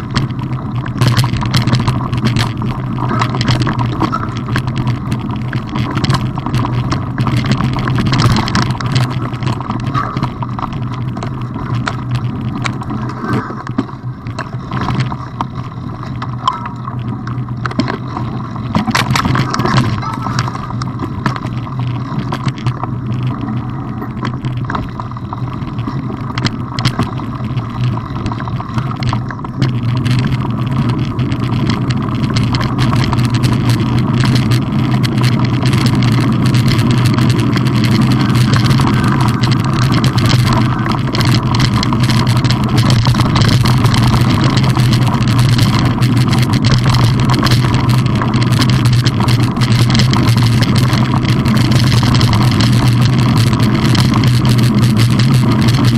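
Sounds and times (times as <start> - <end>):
knobbly tyres on dirt: 0.0 - 55.9
wind rumble: 0.0 - 55.9.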